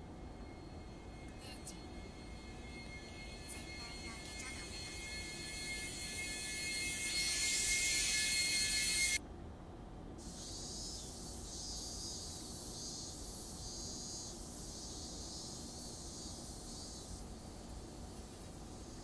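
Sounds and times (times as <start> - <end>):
insects chirping: 0.0 - 9.2, 10.2 - 19.0.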